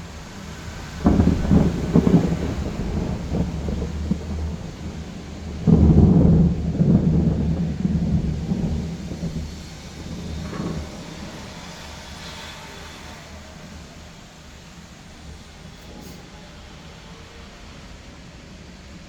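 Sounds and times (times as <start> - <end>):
rain: 0.0 - 19.0
thunder rumbling: 0.0 - 19.0.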